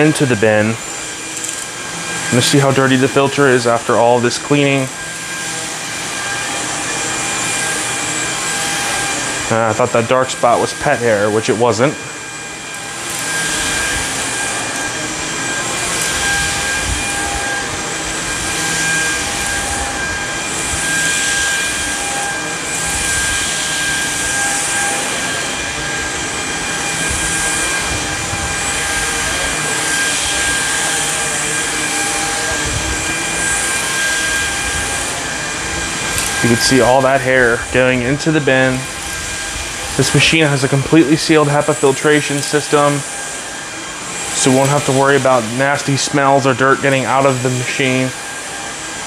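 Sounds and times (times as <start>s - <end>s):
vacuum cleaner on carpet: 0.0s - 49.0s.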